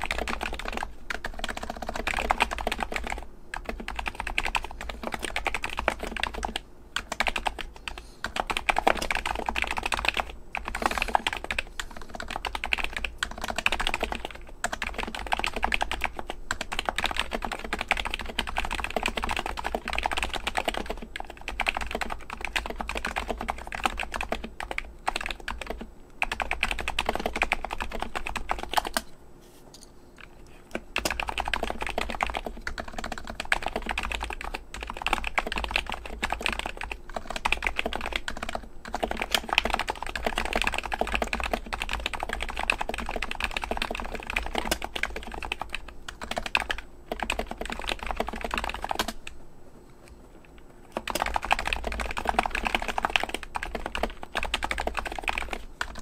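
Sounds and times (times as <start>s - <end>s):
fast typing on a keyboard: 0.0s - 29.0s, 30.2s - 49.4s, 50.9s - 56.0s.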